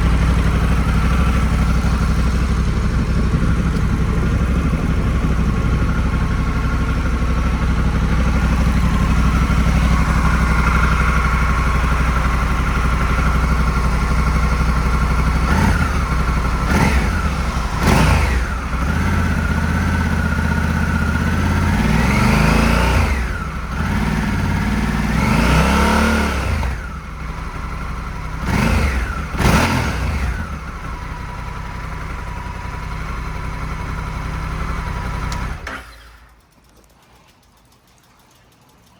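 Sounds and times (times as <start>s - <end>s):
motorcycle engine idling and revving: 0.0s - 37.8s.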